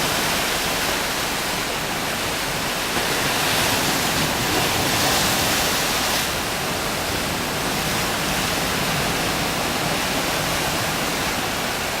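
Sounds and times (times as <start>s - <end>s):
surf breaking on rocky shore: 0.0s - 12.0s.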